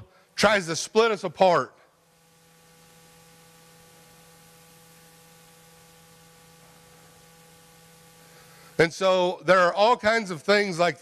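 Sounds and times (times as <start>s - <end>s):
steady held tones: 0.0s - 10.8s
faint electrical hum with hiss: 0.0s - 11.0s.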